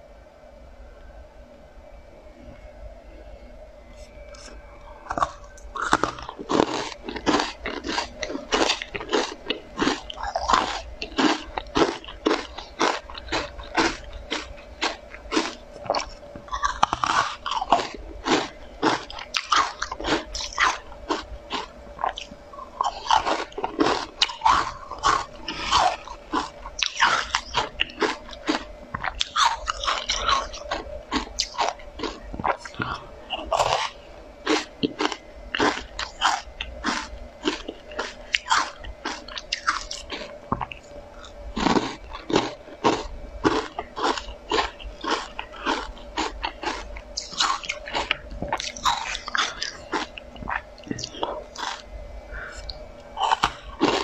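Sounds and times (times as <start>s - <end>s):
crunching cookies: 4.0s - 54.0s.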